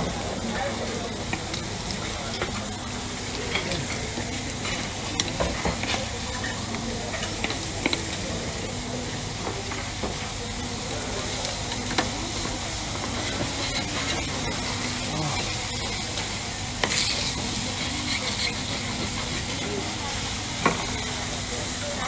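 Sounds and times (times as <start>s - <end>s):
meat sizzling on griddle: 0.0s - 22.0s.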